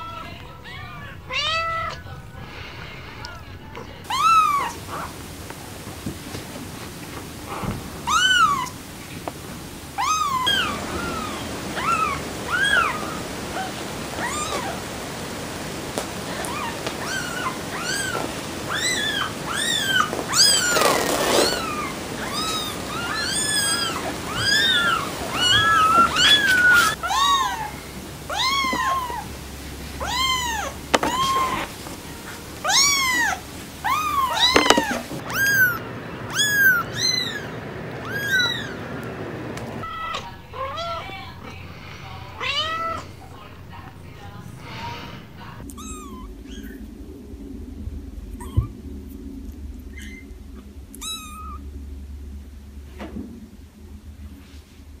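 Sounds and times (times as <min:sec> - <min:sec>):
kittens meowing: 0:00.0 - 0:06.7, 0:07.4 - 0:08.9, 0:09.9 - 0:38.8, 0:39.8 - 0:46.9, 0:48.3 - 0:48.8, 0:49.8 - 0:51.7
burst of noise: 0:00.0 - 0:55.0.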